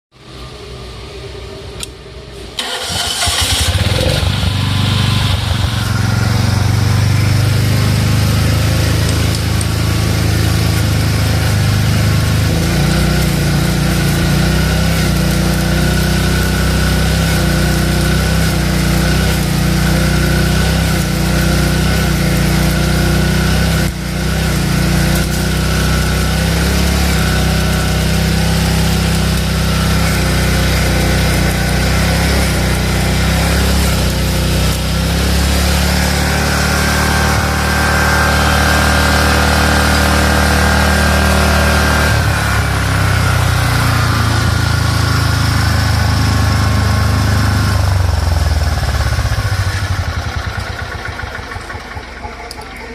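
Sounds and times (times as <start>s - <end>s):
welder generator engine running: 0.2s - 52.9s.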